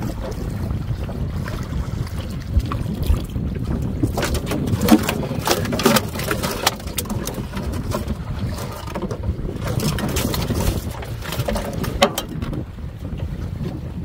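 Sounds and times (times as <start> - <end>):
water noise: 0.0 - 14.0
wind buffeting microphone: 0.0 - 14.0.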